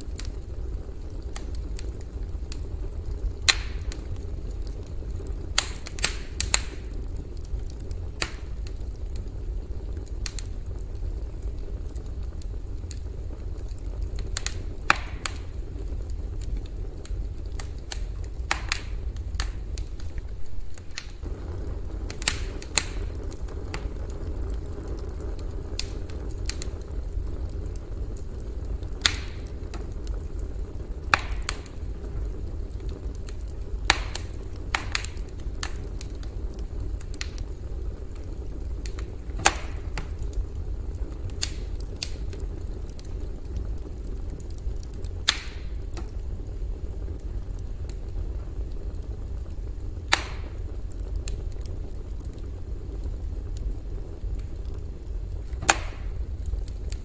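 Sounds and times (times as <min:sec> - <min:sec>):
burning wood popping and crackling: 0:00.0 - 0:57.0
fire low rumble: 0:00.0 - 0:57.0.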